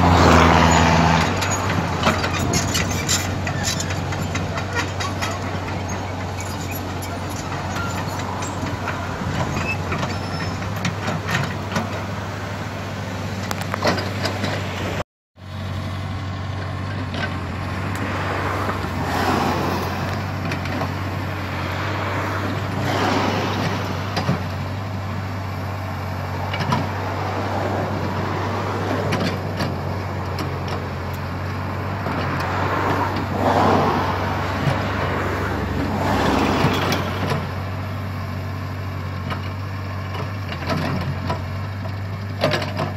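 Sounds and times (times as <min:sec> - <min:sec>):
excavator diesel engine running: 0:00.0 - 0:42.9
hydraulic and digging noise: 0:00.0 - 0:42.9.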